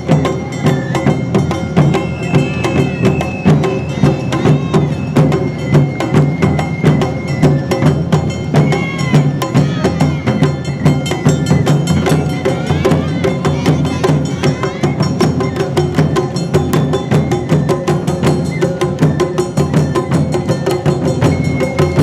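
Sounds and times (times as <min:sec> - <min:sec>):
bamboo flute melody: 0:00.0 - 0:22.0
percussion clacks and drum strokes: 0:00.0 - 0:22.0.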